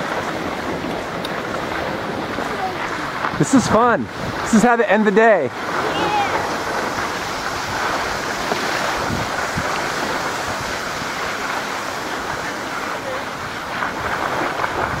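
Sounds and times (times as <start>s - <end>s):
wind on microphone: 0.0s - 4.6s, 5.3s - 15.0s
skis sliding over packed snow: 0.0s - 15.0s.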